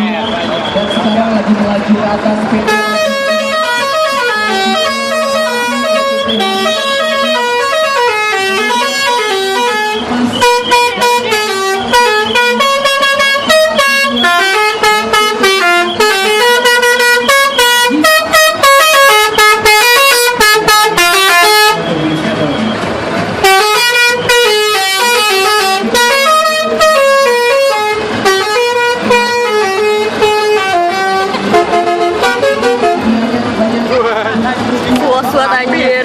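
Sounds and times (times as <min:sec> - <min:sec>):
multi-tone bus air horn tune: 0:02.6 - 0:22.2, 0:23.4 - 0:34.1.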